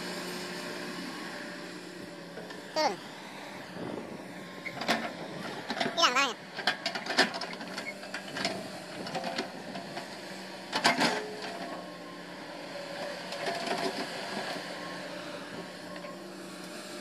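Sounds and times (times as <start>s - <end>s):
excavator engine hum: 0.0s - 17.0s.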